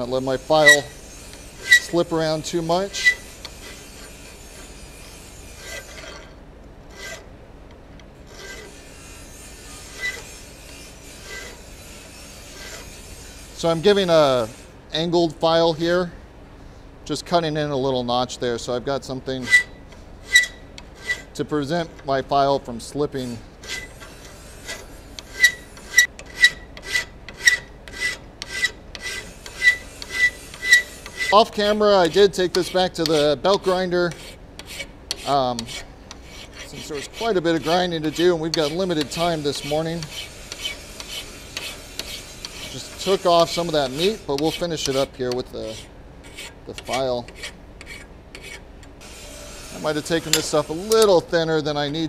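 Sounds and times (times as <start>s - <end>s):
hand file rasping on steel: 0.0s - 7.3s, 8.2s - 14.7s, 19.4s - 21.4s, 23.1s - 51.5s.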